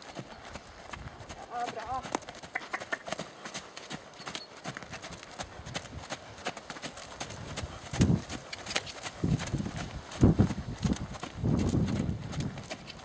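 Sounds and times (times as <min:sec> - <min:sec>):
horse hooves trotting on sand: 0:00.0 - 0:13.0.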